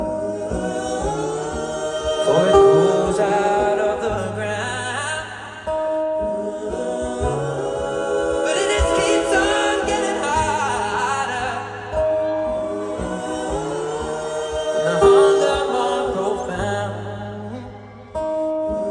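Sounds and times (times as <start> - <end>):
layered wordless singing: 0.0 - 18.9
sustained tones: 0.0 - 18.9.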